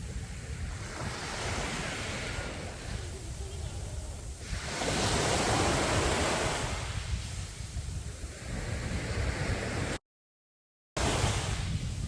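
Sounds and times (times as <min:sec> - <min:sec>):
sea waves breaking on beach: 0:00.0 - 0:10.0, 0:11.0 - 0:12.0
wind rumble on microphone: 0:00.0 - 0:10.0, 0:11.0 - 0:12.0.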